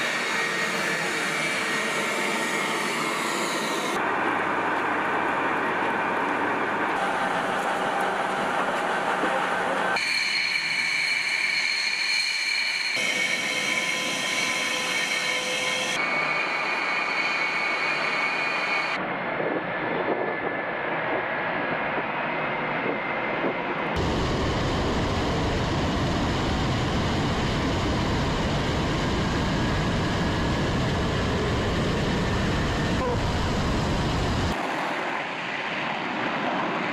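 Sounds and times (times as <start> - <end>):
high-pitched jet engine whine: 0.0 - 36.9
jet engine full-power roar: 0.0 - 36.9.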